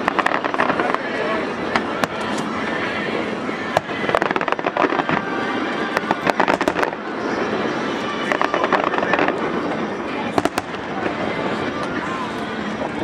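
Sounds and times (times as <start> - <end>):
fireworks cracking and popping: 0.0 - 2.6, 3.6 - 13.0
steady background noise: 0.0 - 13.0.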